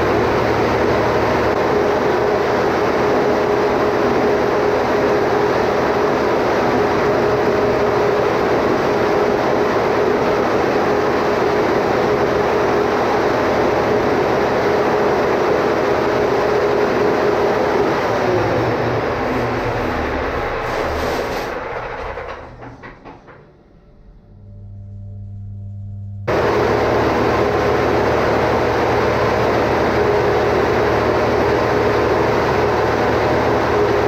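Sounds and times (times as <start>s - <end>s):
generator engine humming: 0.0s - 34.0s.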